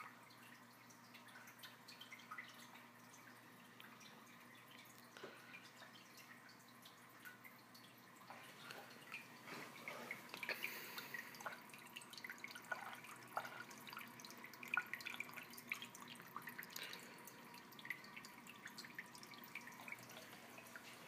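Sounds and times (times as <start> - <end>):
water trickling into aquarium: 0.0 - 21.0.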